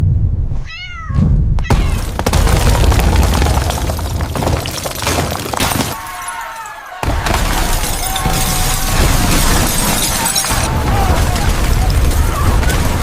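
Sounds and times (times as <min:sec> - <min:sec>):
low rumble with crashing debris: 0:01.2 - 0:06.0, 0:07.0 - 0:13.0.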